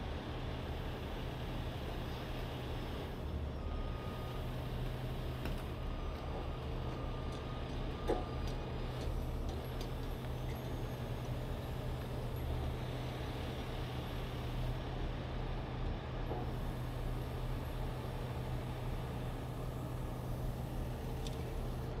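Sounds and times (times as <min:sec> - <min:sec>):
diesel truck engines humming: 0:00.0 - 0:22.0.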